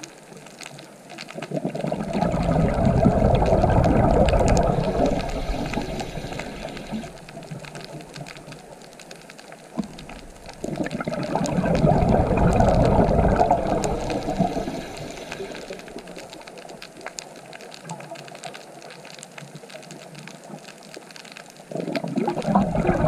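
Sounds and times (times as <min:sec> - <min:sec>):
underwater exhaled air bubbling: 0:01.2 - 0:18.6, 0:21.6 - 0:23.0.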